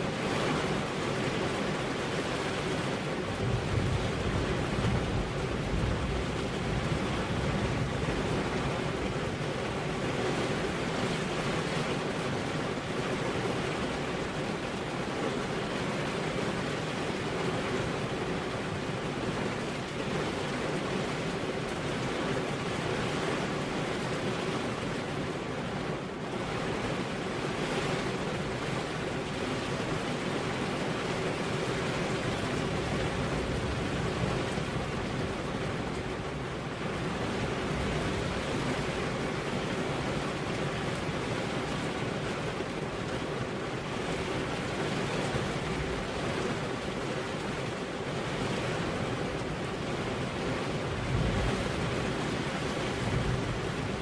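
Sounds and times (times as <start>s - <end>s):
rain with wind: 0.0s - 54.0s.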